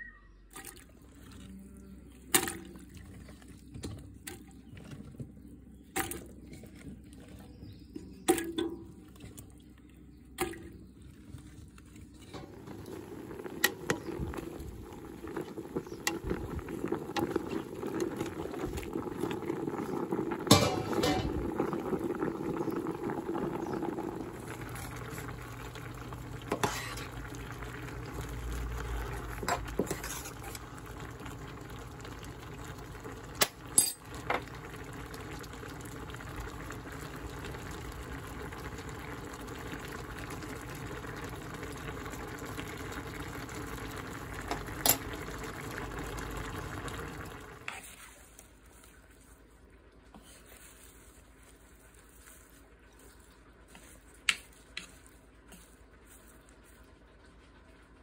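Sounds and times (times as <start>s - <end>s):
water boiling and bubbling in pot: 0.0s - 58.0s.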